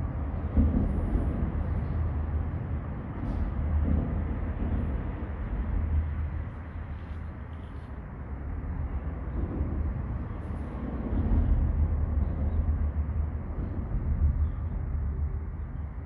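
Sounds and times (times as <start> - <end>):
rumble of traffic on bridge: 0.0 - 16.0.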